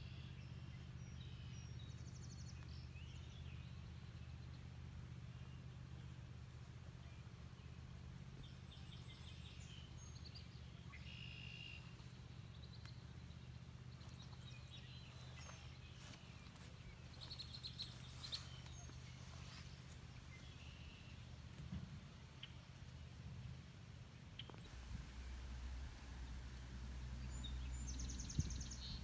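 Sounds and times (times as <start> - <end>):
low steady hum: 0.0 - 29.0
small birds chirping: 0.0 - 29.0.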